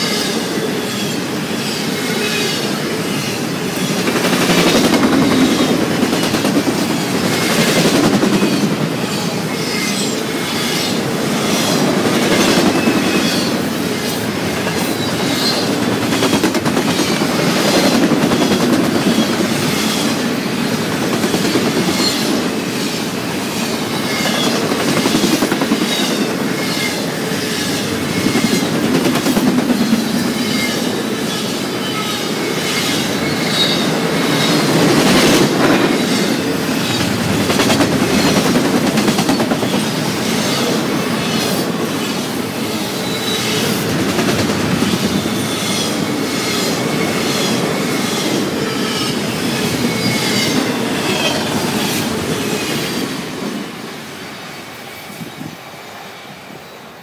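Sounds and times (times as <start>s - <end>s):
clickety-clack over rail joints: 0.0s - 42.4s, 43.0s - 53.8s
steel wheels rumbling on rail: 0.0s - 56.6s.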